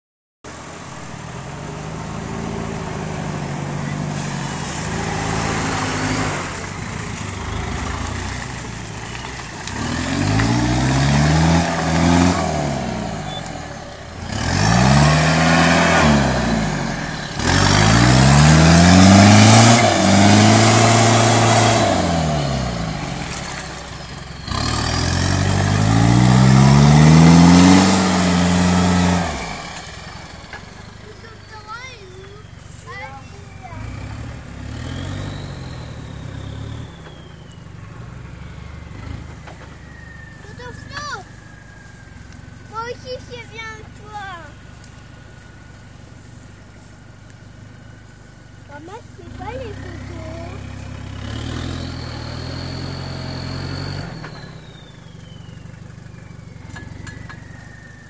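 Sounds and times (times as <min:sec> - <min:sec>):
noise over engine: 0:00.5 - 0:58.0
off-road engine revving under load: 0:00.5 - 0:58.0.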